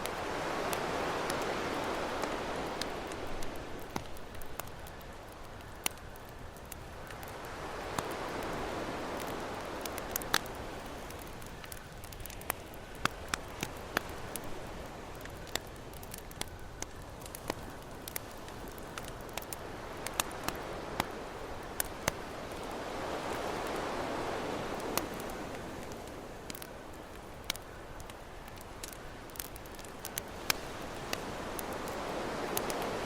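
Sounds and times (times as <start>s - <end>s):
campfire crackling and popping: 0.0s - 33.0s
ocean waves washing ashore: 0.0s - 33.0s.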